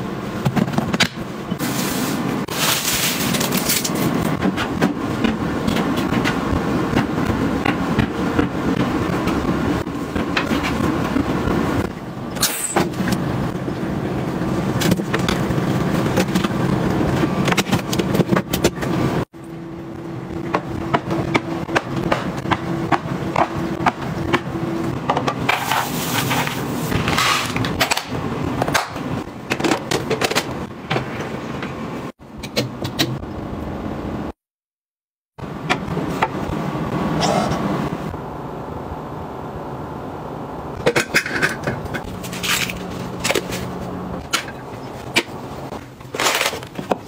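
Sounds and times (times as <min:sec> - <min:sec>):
steady background hum: 0:00.0 - 0:34.4, 0:35.4 - 0:47.0.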